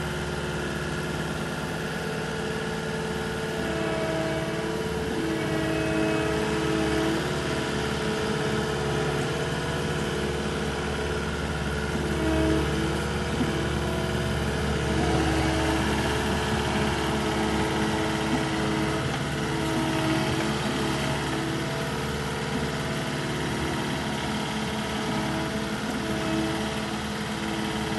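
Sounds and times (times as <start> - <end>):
diesel engine running: 0.0 - 27.9
high engine whine: 0.0 - 27.9.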